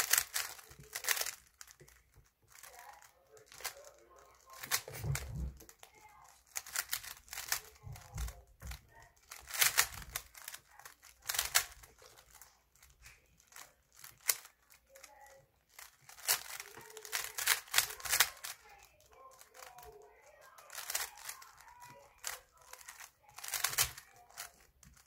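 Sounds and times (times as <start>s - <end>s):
plastic puzzle cube clacking: 0.0s - 25.0s.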